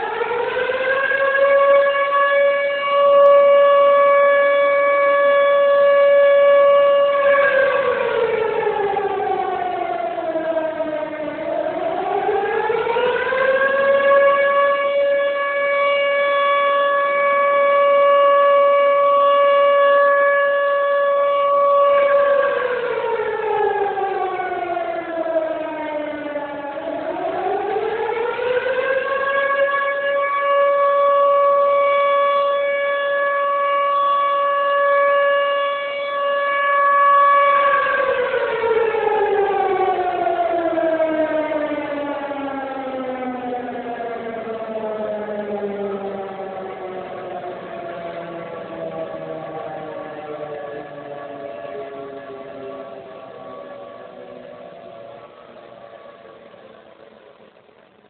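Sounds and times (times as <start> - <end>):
air-raid siren wailing: 0.0 - 58.0.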